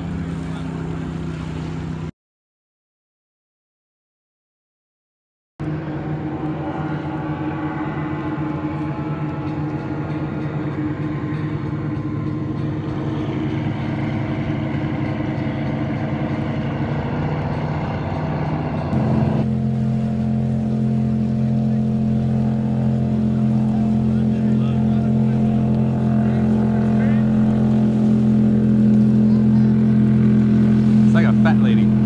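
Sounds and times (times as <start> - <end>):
motorboat engines droning: 0.0 - 2.1, 5.6 - 32.0.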